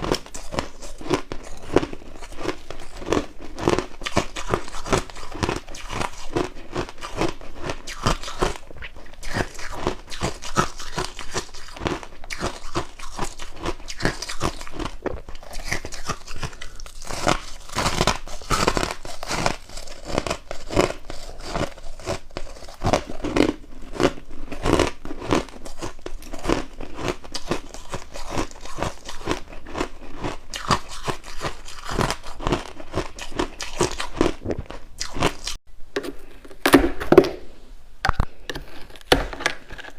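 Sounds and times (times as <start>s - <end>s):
chewing crunchy frost: 0.0s - 35.6s.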